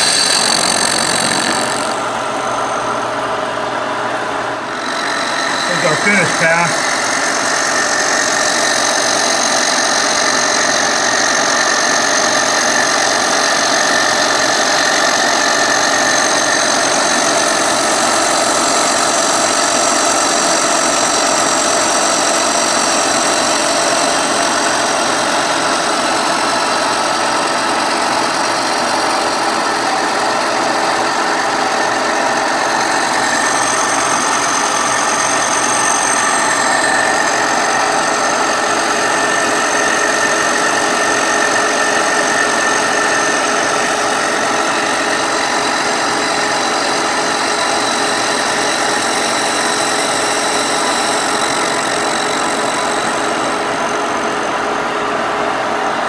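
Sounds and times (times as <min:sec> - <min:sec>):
milling machine cutting metal: 0:00.0 - 0:55.2.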